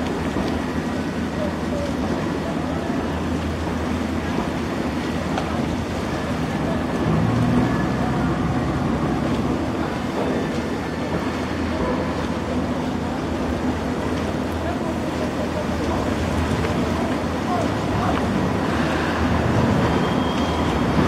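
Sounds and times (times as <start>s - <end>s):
wash of noise: 0.0s - 21.0s.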